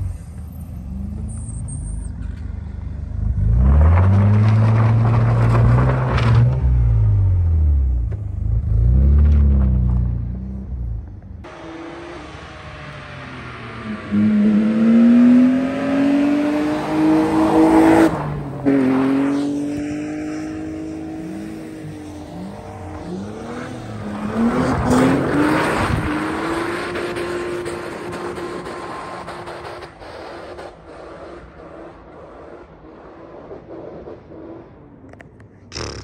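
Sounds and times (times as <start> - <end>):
car engines revving hard: 3.1 - 35.0.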